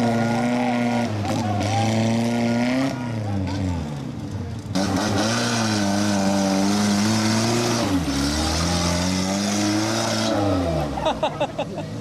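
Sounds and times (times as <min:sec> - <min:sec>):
engine revving hard: 0:00.0 - 0:03.8, 0:04.7 - 0:11.0.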